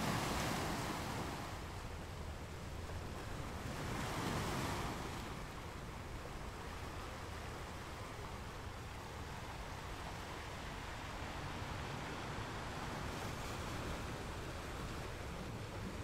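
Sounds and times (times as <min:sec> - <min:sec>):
choppy sea water: 0:00.0 - 0:16.0.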